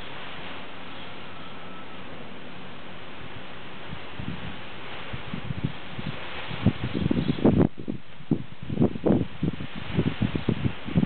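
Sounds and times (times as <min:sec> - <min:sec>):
wind blowing over plastic sheeting: 0:00.0 - 0:11.0.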